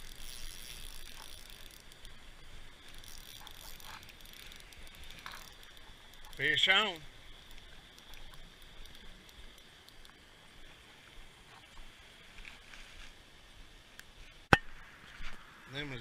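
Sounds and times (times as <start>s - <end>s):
faint water and handling sounds: 0.0s - 15.5s.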